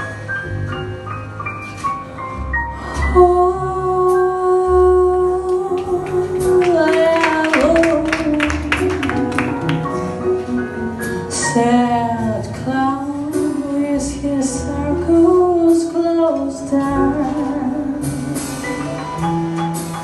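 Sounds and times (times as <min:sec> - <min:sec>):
bass notes: 0:00.0 - 0:20.0
held jazz melody with pitch slides: 0:00.0 - 0:20.0.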